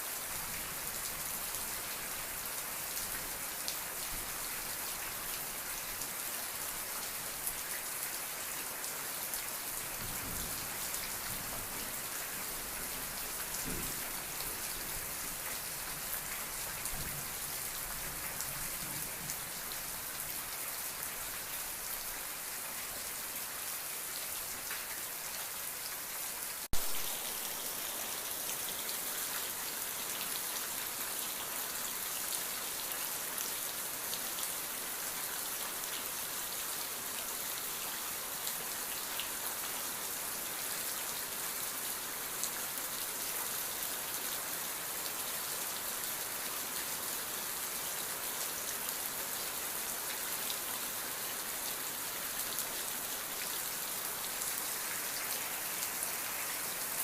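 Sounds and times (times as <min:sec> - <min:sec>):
rain pattering: 0:00.0 - 0:23.4, 0:24.1 - 0:57.0.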